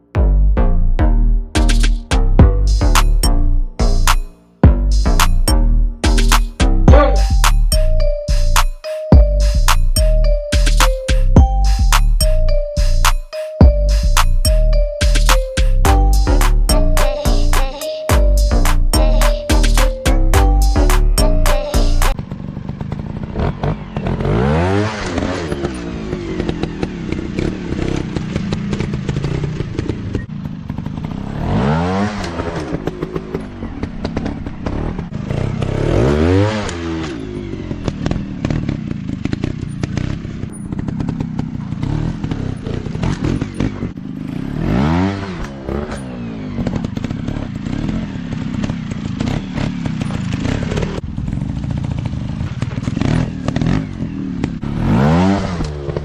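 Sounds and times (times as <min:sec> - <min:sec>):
motorcycle engines revving: 0:01.6 - 0:13.1, 0:13.7 - 0:56.0.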